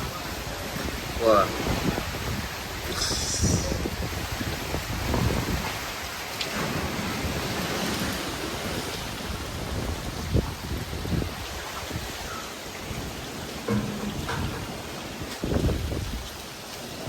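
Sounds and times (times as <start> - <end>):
driving rain hiss: 0.0 - 17.0
wind rumbling: 0.0 - 17.0.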